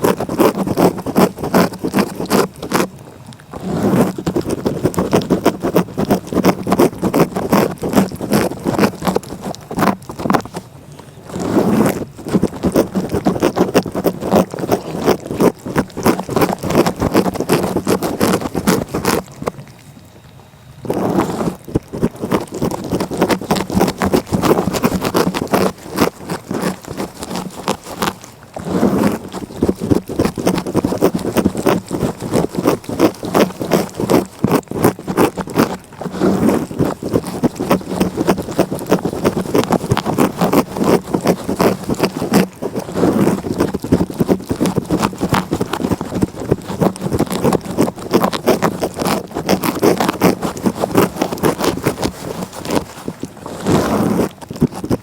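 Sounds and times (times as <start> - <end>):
cat licking: 0.0 - 55.0.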